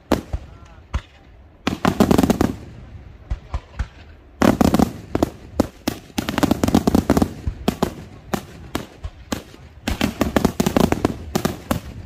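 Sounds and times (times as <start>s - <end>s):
fireworks bangs and crackles: 0.0s - 12.0s
sharp firework reports: 0.0s - 12.0s.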